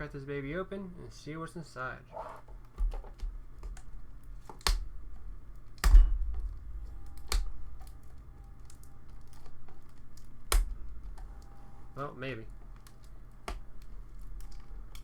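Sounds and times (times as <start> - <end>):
plastic wrap crinkling: 2.6 - 15.0.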